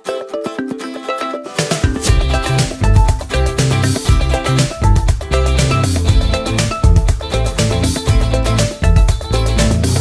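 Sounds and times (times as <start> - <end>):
upbeat music with plucked strings: 0.0 - 10.0.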